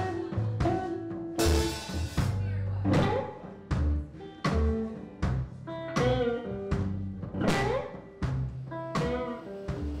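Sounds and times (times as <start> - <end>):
plucked string music with beat: 0.0 - 10.0.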